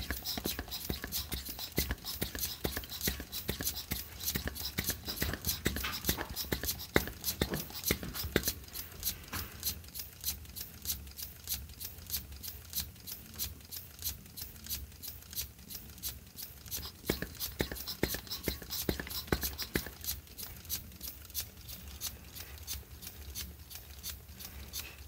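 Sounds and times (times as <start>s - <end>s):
air engine puffs and clicks: 0.0s - 25.0s.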